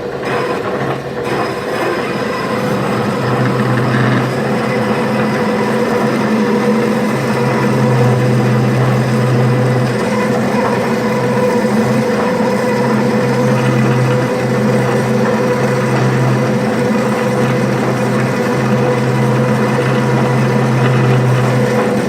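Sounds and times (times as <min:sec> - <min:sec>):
bandsaw sawing steel: 0:00.0 - 0:22.0.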